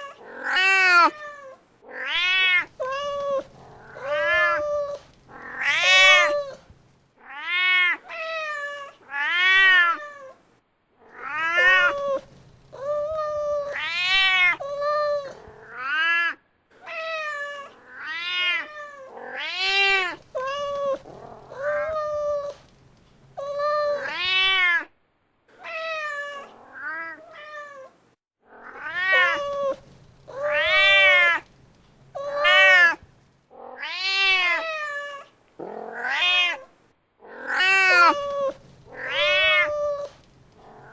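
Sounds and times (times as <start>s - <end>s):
cat meowing: 0.0s - 10.4s, 11.0s - 22.7s, 23.4s - 24.9s, 25.6s - 31.5s, 32.1s - 36.7s, 37.3s - 40.9s.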